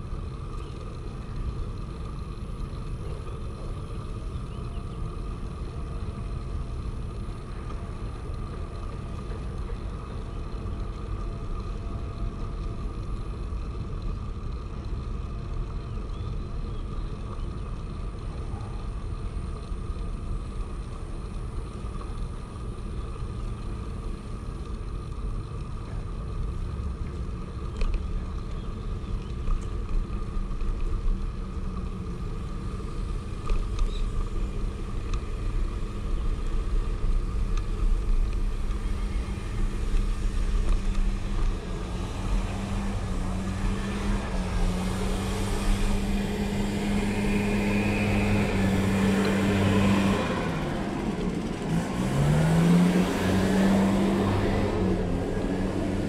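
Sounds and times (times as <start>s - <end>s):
bicycle tyre and wind noise: 0.0s - 56.0s.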